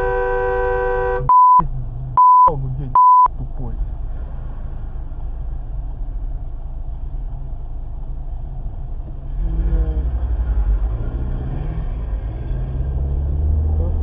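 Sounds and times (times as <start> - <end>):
car engine revving: 0.0 - 14.0
road rumble: 0.0 - 14.0.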